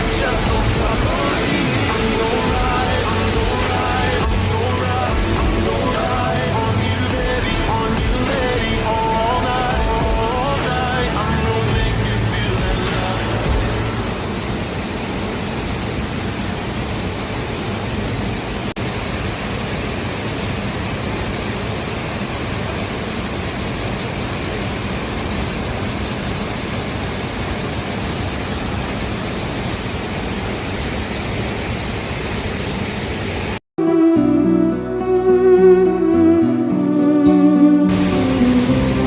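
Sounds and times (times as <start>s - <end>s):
waterfall rushing: 0.0s - 33.6s, 37.9s - 39.0s.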